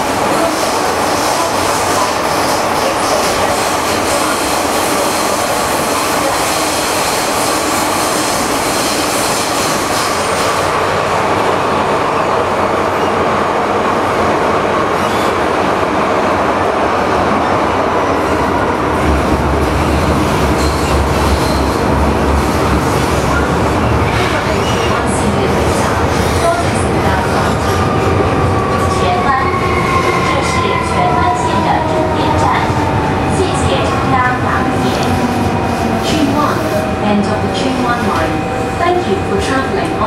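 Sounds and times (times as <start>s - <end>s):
train wheel and track noise: 0.0s - 40.0s.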